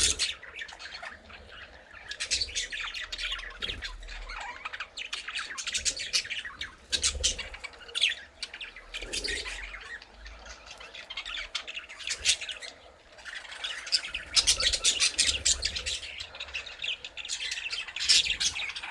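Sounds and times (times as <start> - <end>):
budgerigars chattering: 0.0 - 18.9.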